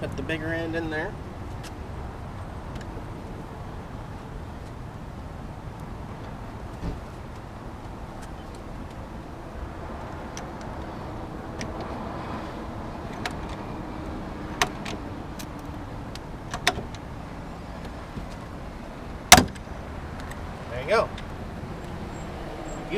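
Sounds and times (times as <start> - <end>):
traffic noise: 0.0 - 22.9.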